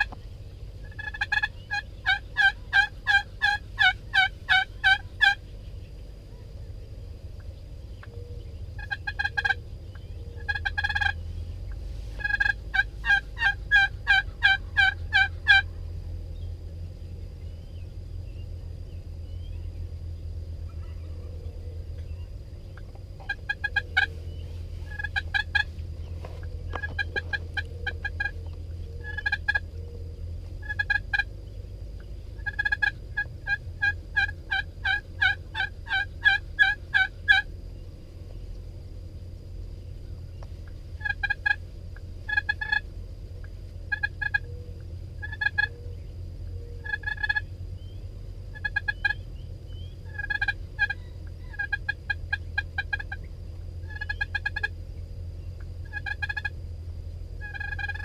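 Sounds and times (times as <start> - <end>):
wild turkeys yelping: 0.0 - 6.6, 7.4 - 15.8, 20.6 - 37.5, 39.8 - 54.8, 55.4 - 56.6, 57.4 - 58.0
steady low rumble: 0.0 - 58.0.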